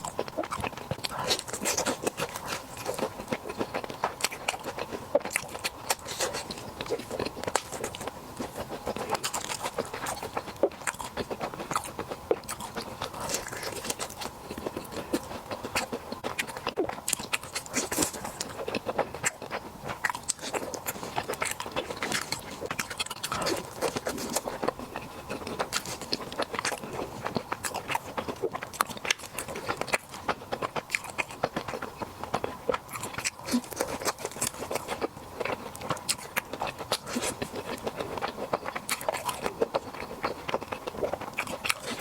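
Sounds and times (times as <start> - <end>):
chewing and mouth smacking: 0.0 - 42.0.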